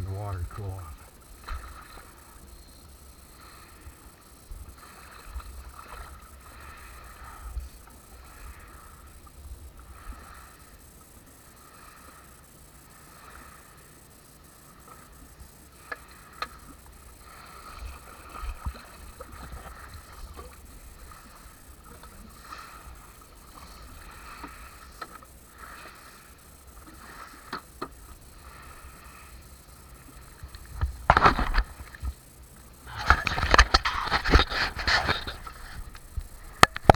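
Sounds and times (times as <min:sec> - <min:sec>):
small waves lapping against hull: 0:00.0 - 0:36.9.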